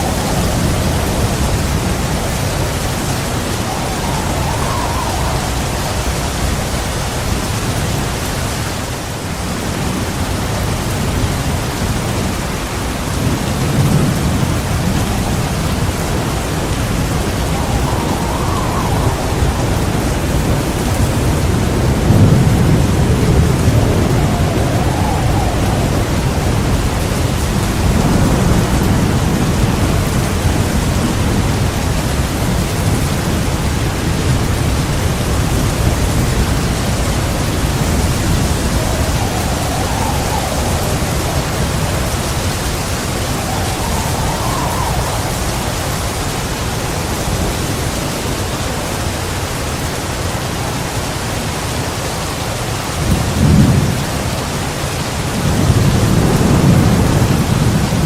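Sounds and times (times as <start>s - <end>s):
thunder rumbling: 0.0s - 49.8s, 52.8s - 58.0s
heavy rain pouring: 0.0s - 58.0s.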